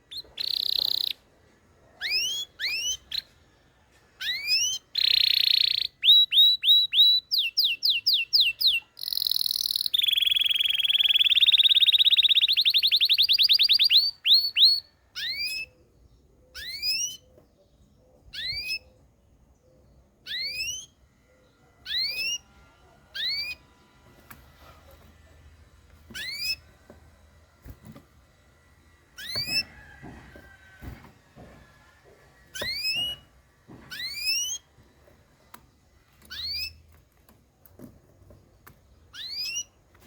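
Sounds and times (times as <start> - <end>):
canary singing: 0.0 - 1.3, 2.0 - 3.4, 4.2 - 24.3, 25.9 - 37.0, 38.6 - 40.0.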